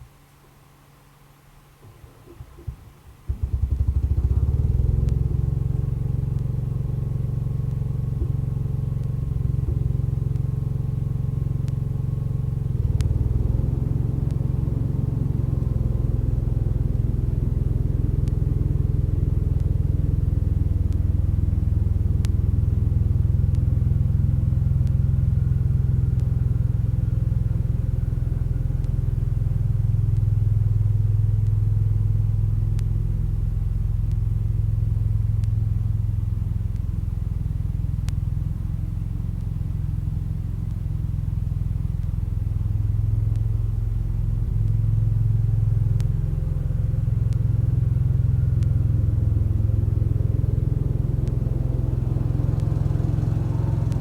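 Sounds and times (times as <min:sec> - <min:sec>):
tractor engine running: 0:03.3 - 0:54.0.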